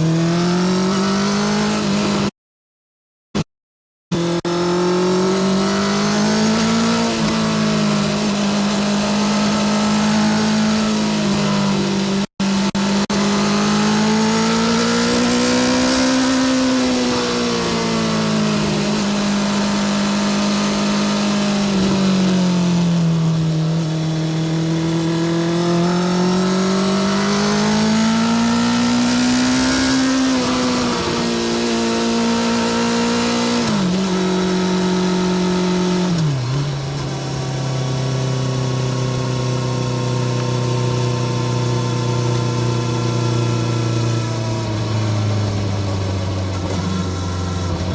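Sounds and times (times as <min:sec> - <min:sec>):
motorcycle engine: 0:04.1 - 0:47.9.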